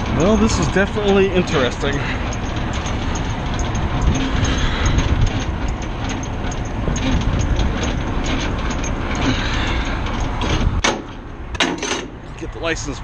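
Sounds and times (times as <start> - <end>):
hand crank gearbox clicking and rattling: 0.0 - 12.5
constant low rumble: 0.0 - 13.0.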